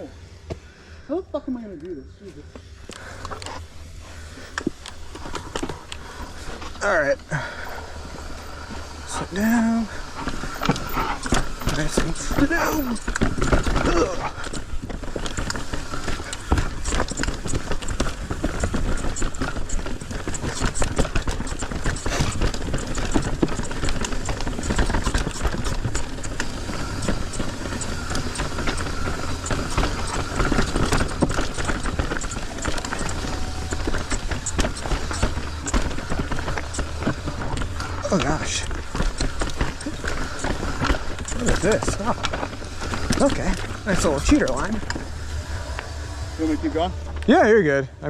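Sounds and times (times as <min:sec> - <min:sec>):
bike chain and frame clatter: 0:02.6 - 0:47.9
bike tyres rolling over dirt: 0:02.6 - 0:48.0.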